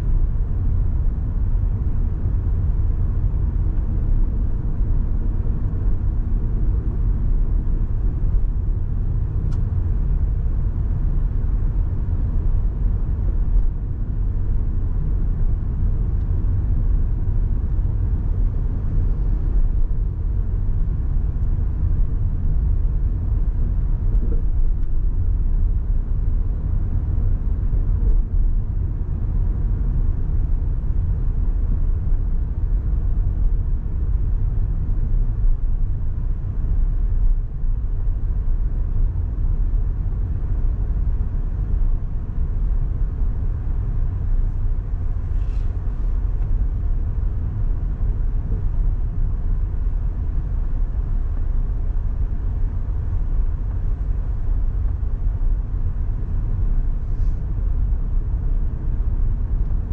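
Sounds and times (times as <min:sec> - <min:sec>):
road and tyre rumble: 0:00.0 - 0:59.9.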